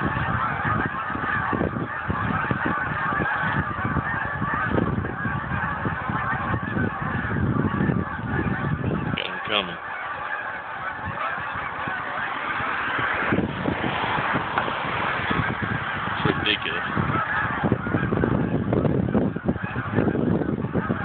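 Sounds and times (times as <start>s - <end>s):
geese honking overhead: 0.0s - 21.0s.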